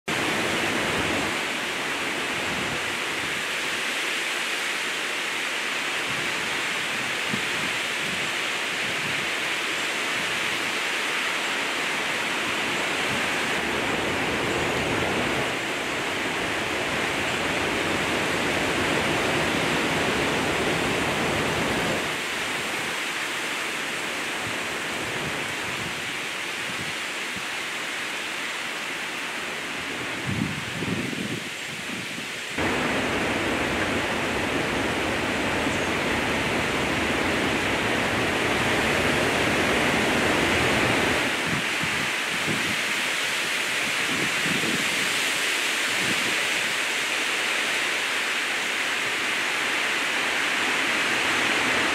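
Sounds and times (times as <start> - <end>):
heavy rain: 0.0 - 51.9
wind rushing through trees: 0.1 - 51.9.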